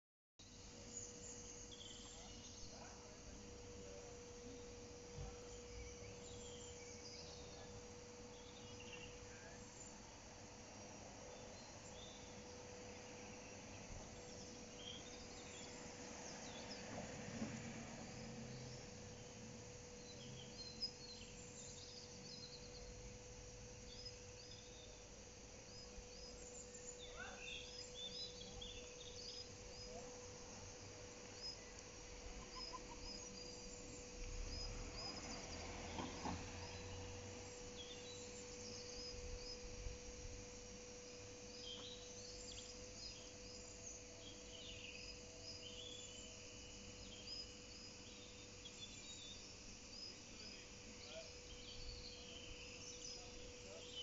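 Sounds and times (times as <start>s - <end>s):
faint birdsong: 0.4s - 54.0s
faint steady hum: 0.4s - 54.0s.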